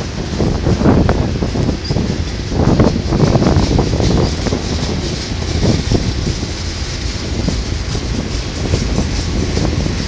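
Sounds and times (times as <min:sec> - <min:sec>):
train wheels rumbling on rail: 0:00.0 - 0:10.0
wheels clacking over rail joints: 0:00.0 - 0:10.0.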